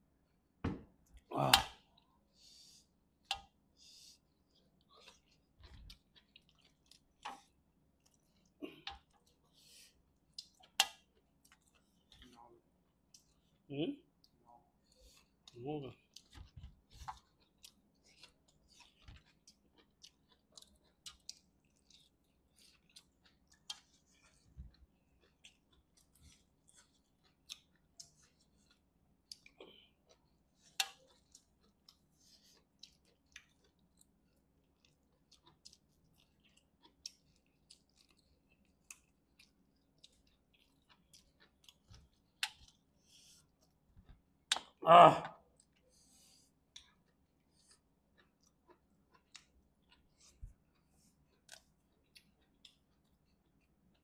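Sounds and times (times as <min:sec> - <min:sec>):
chewing: 0:03.2 - 0:44.8, 0:45.5 - 0:54.0.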